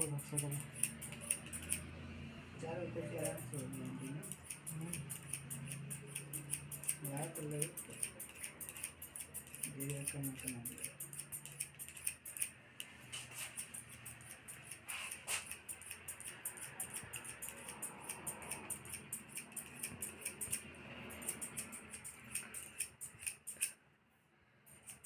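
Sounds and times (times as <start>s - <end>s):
scissors snipping hair: 0.0s - 1.9s, 3.0s - 23.8s, 24.7s - 25.0s.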